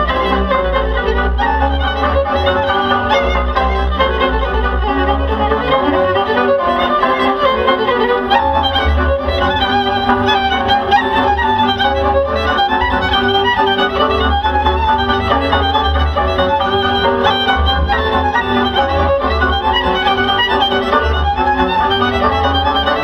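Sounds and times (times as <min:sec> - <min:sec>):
fiddle: 0:00.0 - 0:23.0
folk dance music over loudspeakers: 0:00.0 - 0:23.0.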